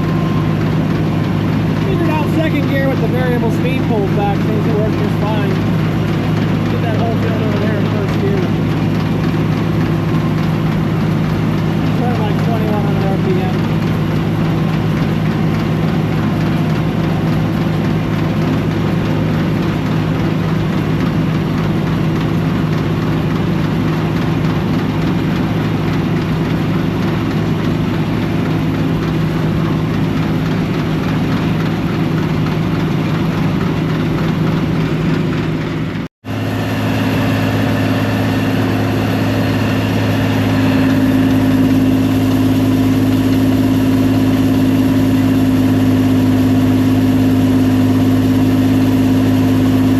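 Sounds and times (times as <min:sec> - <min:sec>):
combine harvester engine running: 0:00.0 - 0:49.9.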